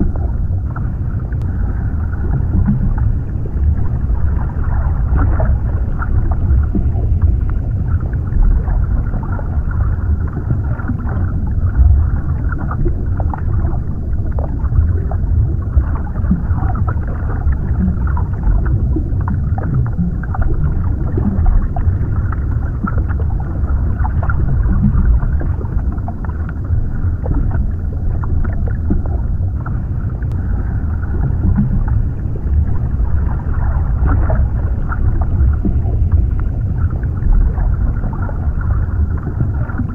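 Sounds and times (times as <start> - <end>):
bubbling clicks and pops: 0.0 - 1.6, 2.2 - 39.9
underwater rumble: 0.0 - 39.9.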